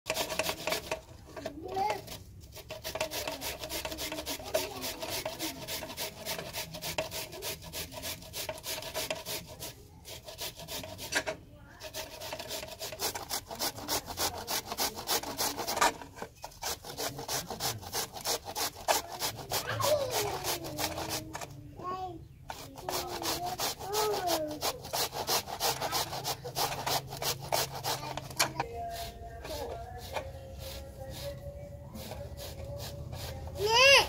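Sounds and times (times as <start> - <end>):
carrot rasping on metal grater: 0.1 - 21.5, 22.5 - 34.0.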